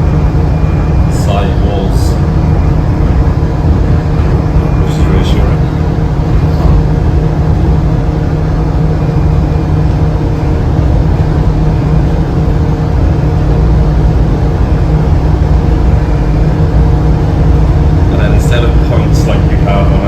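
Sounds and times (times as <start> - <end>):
steady tones: 0.0 - 20.0
transit pod running noise: 0.0 - 20.0.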